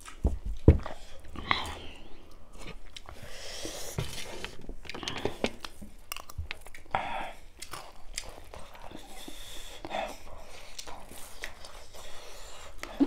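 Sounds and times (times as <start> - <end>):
chewing and crunching snack: 1.0 - 13.0.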